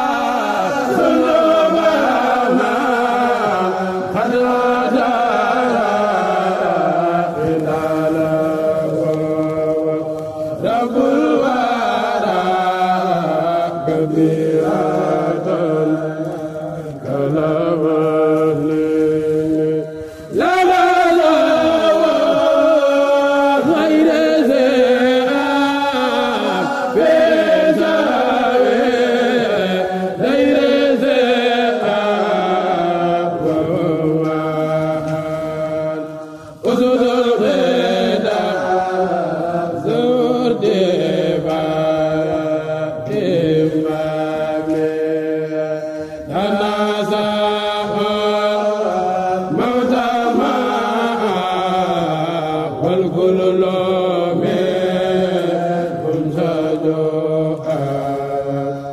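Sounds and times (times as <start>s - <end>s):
man chanting unaccompanied: 0.0s - 58.9s.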